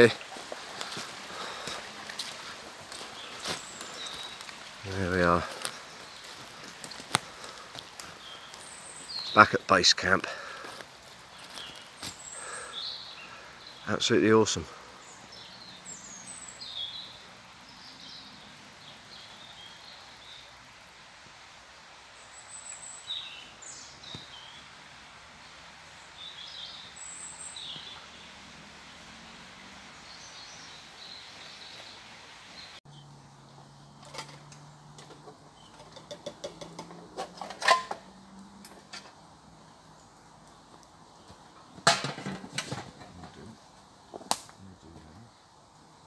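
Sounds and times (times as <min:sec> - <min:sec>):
small birds chirping: 0:00.0 - 0:20.8, 0:22.0 - 0:41.8, 0:42.7 - 0:46.0
faint steady hiss: 0:00.0 - 0:46.0.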